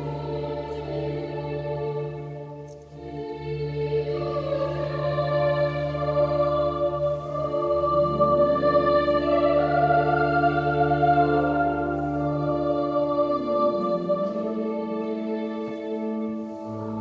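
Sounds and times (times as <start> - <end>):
organ playing sustained chords: 0.0 - 17.0.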